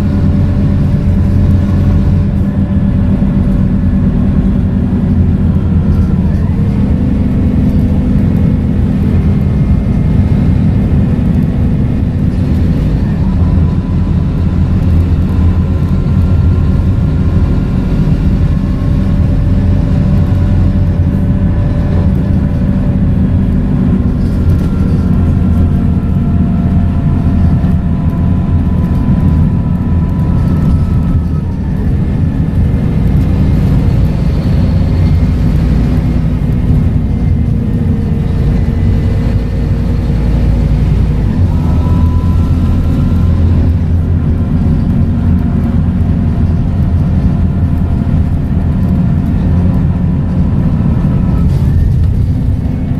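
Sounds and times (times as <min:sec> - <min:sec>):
diesel bus engine running: 0:00.0 - 0:52.9
gearbox whine: 0:00.0 - 0:52.9.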